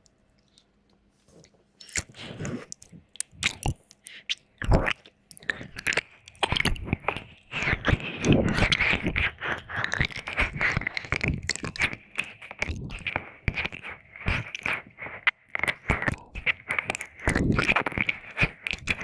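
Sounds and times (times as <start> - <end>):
wet mouth sounds: 0.3 - 19.0.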